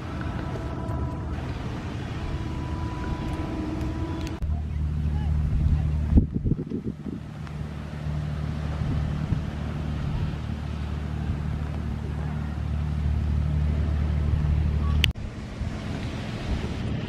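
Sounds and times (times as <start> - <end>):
boat engines droning: 0.0 - 17.0
water noise: 0.0 - 17.0
wind: 0.0 - 17.0.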